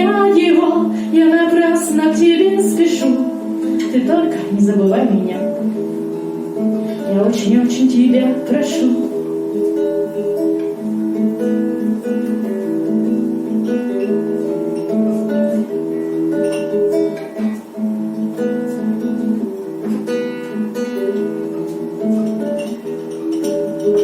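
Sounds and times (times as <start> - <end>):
acoustic guitar strummed: 0.0 - 24.0.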